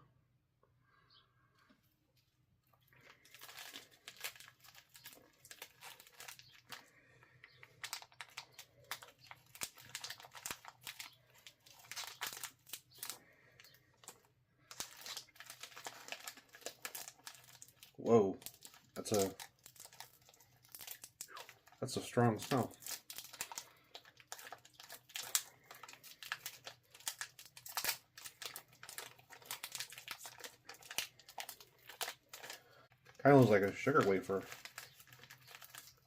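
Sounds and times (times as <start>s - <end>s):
snack wrapper crinkling and tearing: 2.6s - 36.0s.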